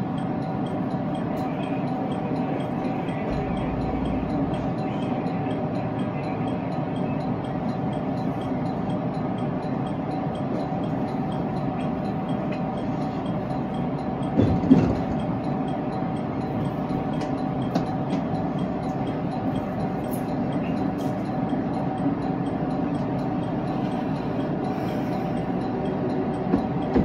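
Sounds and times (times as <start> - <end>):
train hum: 0.0 - 27.0
train running rumble: 0.0 - 27.0.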